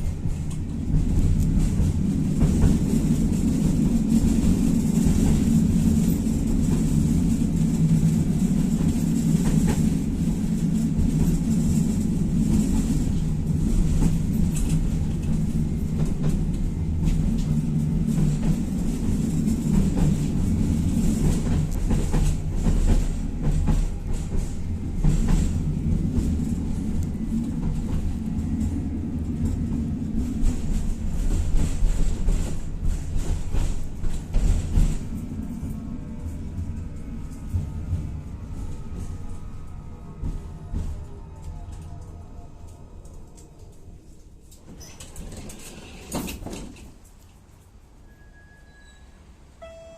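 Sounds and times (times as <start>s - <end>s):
tram rumbling with drive hum: 0.0s - 49.9s.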